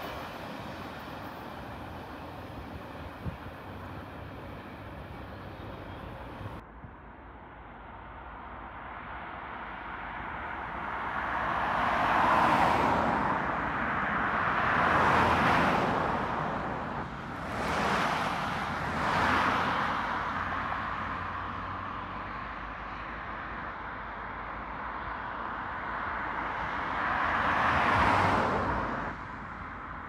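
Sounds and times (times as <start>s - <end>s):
cars passing on road: 0.0s - 30.0s.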